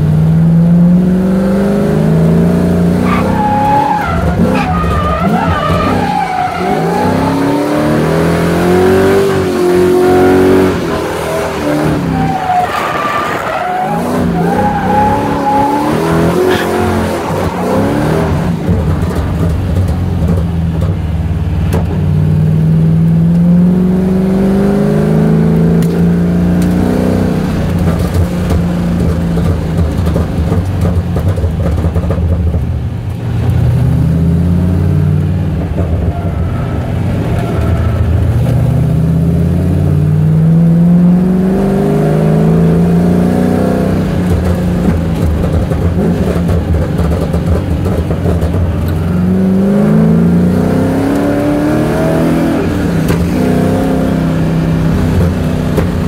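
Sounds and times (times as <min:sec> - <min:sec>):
car engine revving: 0:00.0 - 0:56.0
tyres skidding: 0:01.8 - 0:56.0.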